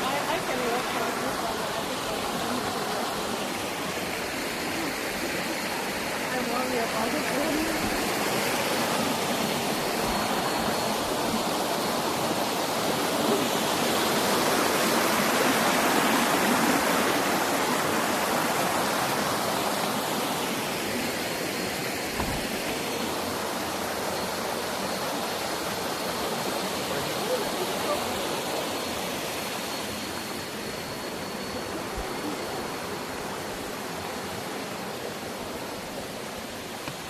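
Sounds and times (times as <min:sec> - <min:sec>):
stream and waterfall rushing: 0:00.0 - 0:37.0.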